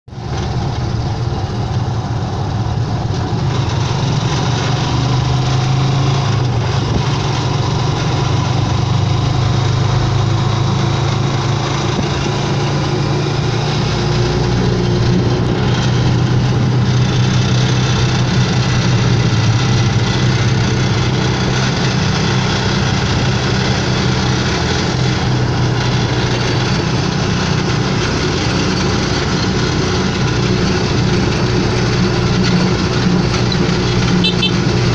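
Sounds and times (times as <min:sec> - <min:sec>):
road and tyre noise: 0:00.0 - 0:34.9
motorcycle engine running: 0:00.1 - 0:34.9.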